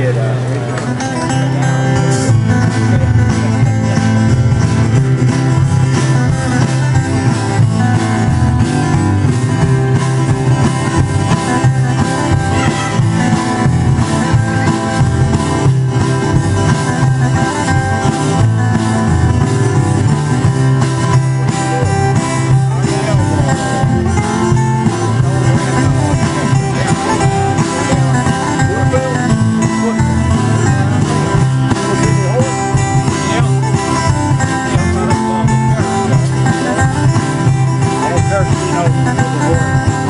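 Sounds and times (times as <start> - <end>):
country band playing: 0.0 - 40.0
strummed acoustic guitars: 0.0 - 40.0
upright bass line: 0.0 - 40.0
drum kit: 0.9 - 40.0.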